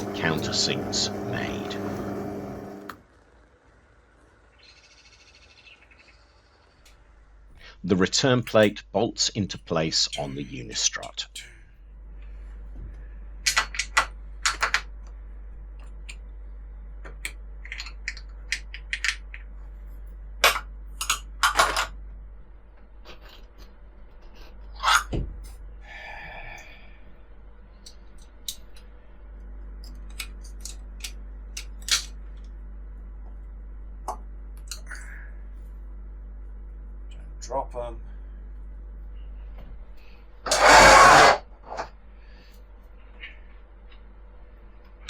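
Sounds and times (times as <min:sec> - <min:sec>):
steady low hum: 0:00.0 - 0:04.4, 0:06.4 - 0:45.0.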